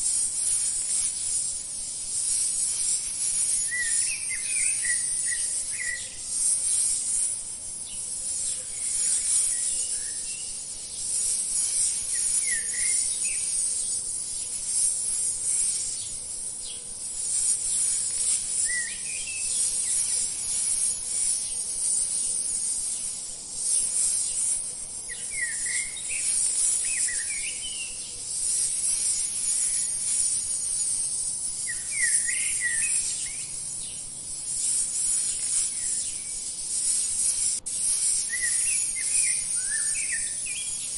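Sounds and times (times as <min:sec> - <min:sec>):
high-pitched insect chorus: 0:00.0 - 0:40.9
short rising bird chirps: 0:02.4 - 0:07.3, 0:08.8 - 0:13.6, 0:17.2 - 0:40.9.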